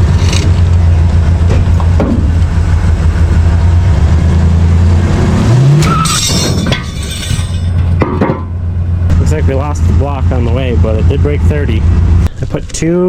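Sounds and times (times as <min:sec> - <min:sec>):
engine revving: 0:00.0 - 0:08.0, 0:08.6 - 0:12.3
pickup engine straining: 0:00.0 - 0:12.8.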